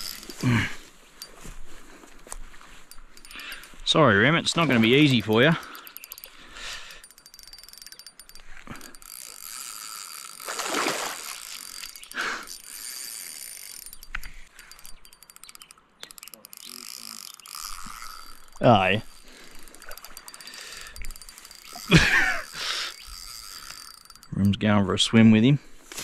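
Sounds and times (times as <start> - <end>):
fishing reel clicking: 0.0 - 1.4, 2.2 - 25.4.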